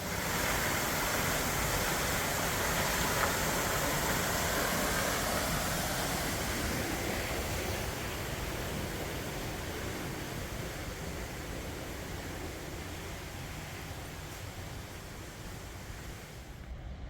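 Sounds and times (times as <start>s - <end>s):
waterfall rushing: 0.0s - 16.5s.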